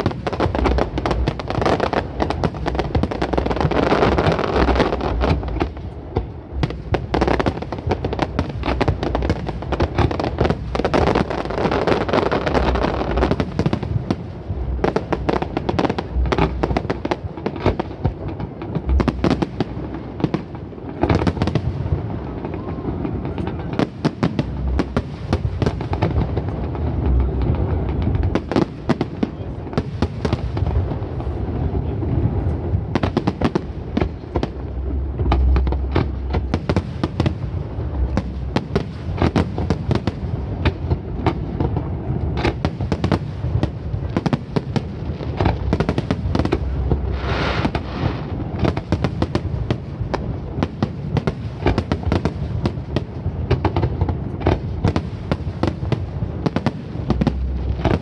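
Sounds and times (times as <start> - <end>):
deep firework booms: 0.0 - 58.0
fireworks crackling and popping: 0.0 - 58.0.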